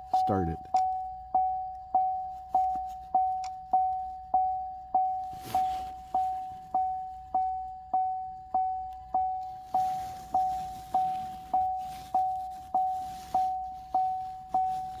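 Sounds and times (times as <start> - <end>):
electronic warning chime dinging: 0.0 - 15.0.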